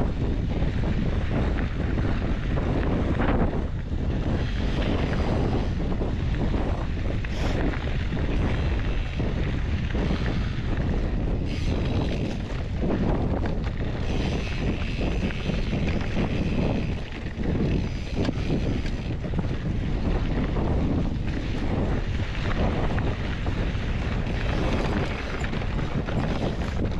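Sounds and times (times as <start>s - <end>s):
bike rattles: 0.0s - 26.9s
wind buffeting microphone: 0.0s - 26.9s
tyre noise on dirt: 0.1s - 26.9s.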